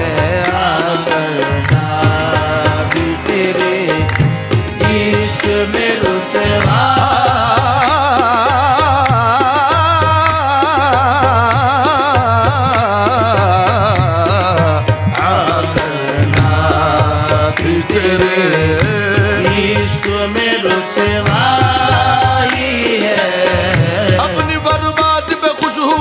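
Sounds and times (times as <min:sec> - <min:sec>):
tabla rhythm: 0:00.0 - 0:26.0.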